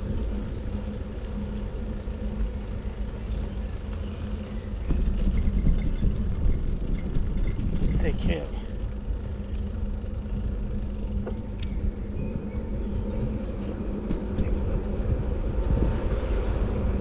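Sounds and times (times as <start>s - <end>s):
low hum: 0.0s - 17.0s
wind and road noise: 0.0s - 17.0s.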